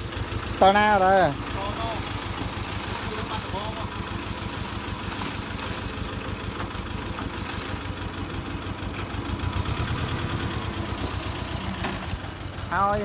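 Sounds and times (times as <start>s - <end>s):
wheel loader engine running: 0.0s - 13.0s.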